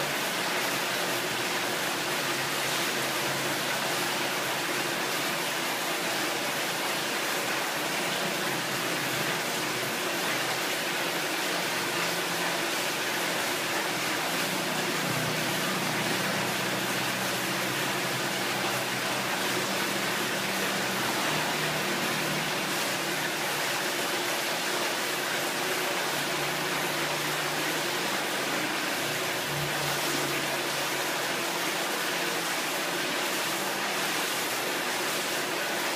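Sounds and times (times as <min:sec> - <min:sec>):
falling water splashing: 0:00.0 - 0:35.9.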